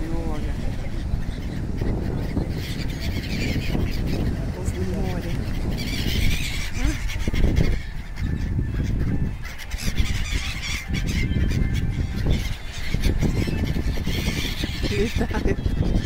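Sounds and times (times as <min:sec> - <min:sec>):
gulls squawking: 0:00.0 - 0:16.0.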